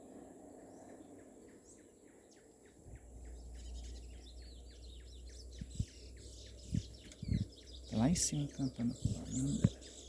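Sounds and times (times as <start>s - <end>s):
small bird singing: 0.6s - 10.0s.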